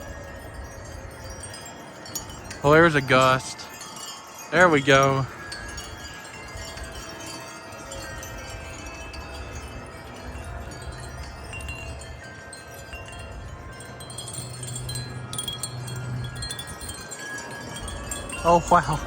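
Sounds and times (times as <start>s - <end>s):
low rumble of wind: 0.0s - 19.0s
metal wind chimes ringing: 0.0s - 19.0s.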